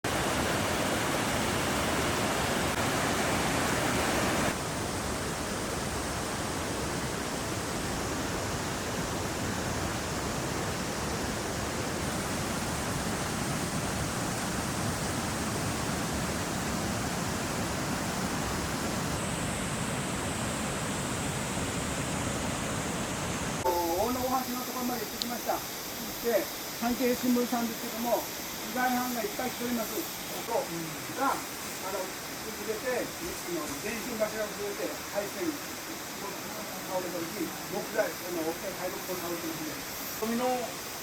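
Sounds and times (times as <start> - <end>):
floodwater rushing: 0.0 - 41.0.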